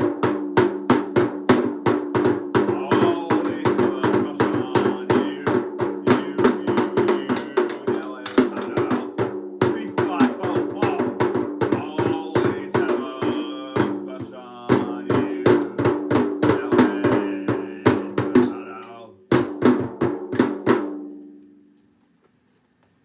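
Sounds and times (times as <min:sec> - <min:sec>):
drum kit playing fast: 0:00.0 - 0:20.8.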